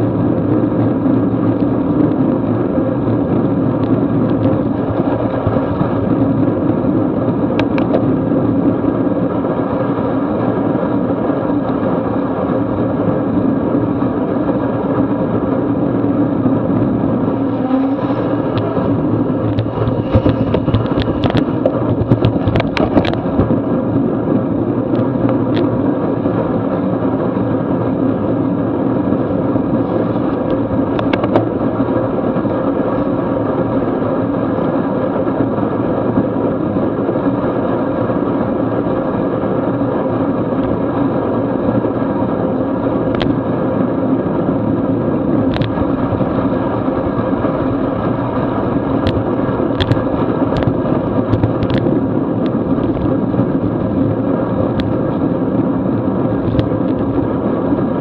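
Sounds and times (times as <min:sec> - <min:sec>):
bicycle tyres on wet pavement: 0:00.0 - 0:58.0
wind rushing: 0:00.0 - 0:58.0.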